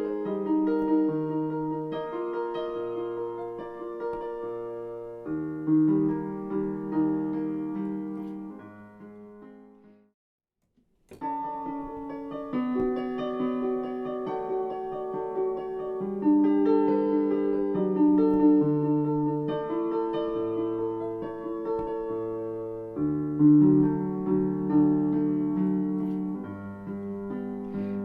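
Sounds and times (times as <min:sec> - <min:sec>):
piano music with slow chords: 0:00.0 - 0:10.1, 0:11.1 - 0:28.0.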